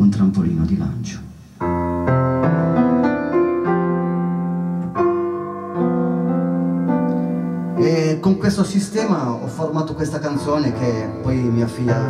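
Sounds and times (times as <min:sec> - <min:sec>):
electric piano chords: 0:01.6 - 0:12.0.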